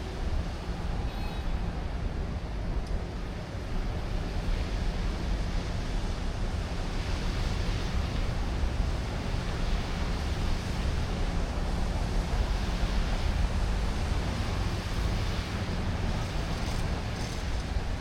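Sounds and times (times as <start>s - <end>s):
traffic hiss and rumble: 0.0s - 18.0s.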